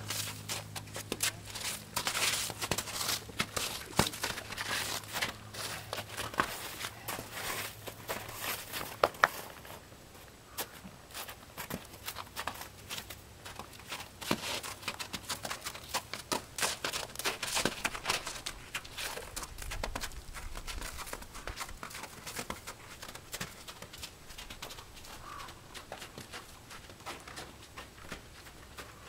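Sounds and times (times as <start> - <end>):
hooves crunching through snow: 0.0 - 9.8, 10.5 - 29.0.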